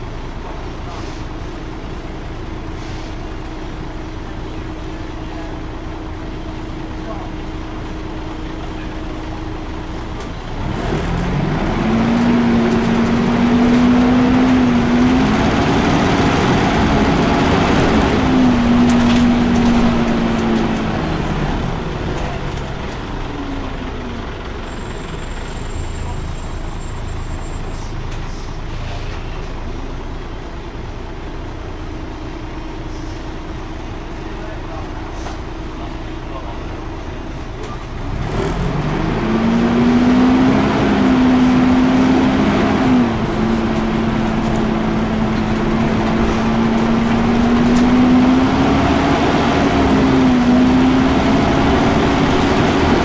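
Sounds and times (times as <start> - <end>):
engine cooling fan hum: 0.0 - 53.0.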